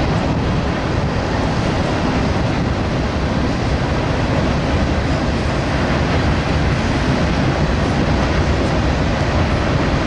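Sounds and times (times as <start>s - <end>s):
freight train cars rolling: 0.0s - 10.0s.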